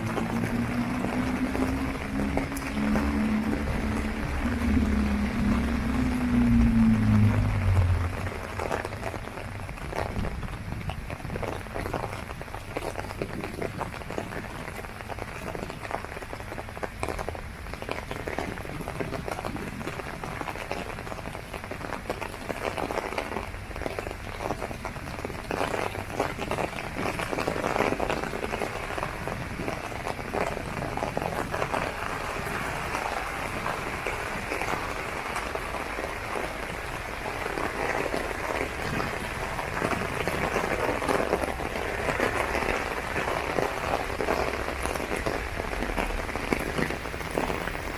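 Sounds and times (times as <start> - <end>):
rain on an umbrella: 0.0 - 47.9.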